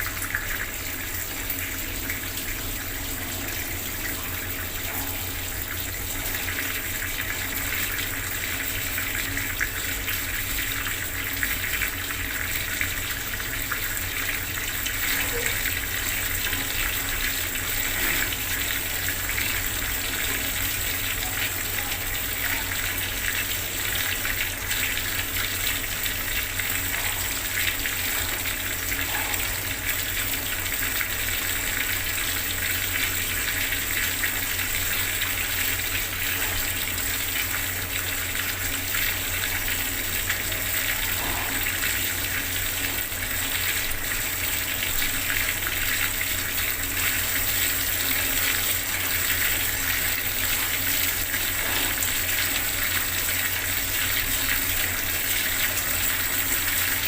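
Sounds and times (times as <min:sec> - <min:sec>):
water tap running: 0:00.0 - 0:57.0.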